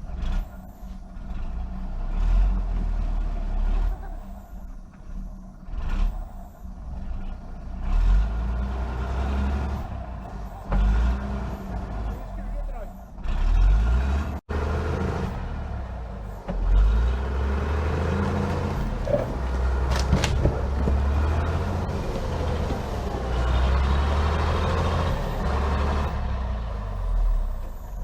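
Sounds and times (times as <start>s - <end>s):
diesel truck engine rumbling: 0.0s - 28.0s.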